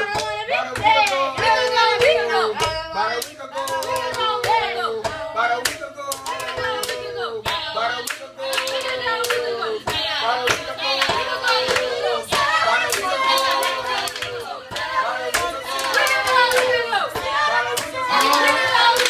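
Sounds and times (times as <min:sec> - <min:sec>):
hands clapping a rhythm: 0:00.0 - 0:19.0
voices singing and humming: 0:00.0 - 0:19.0.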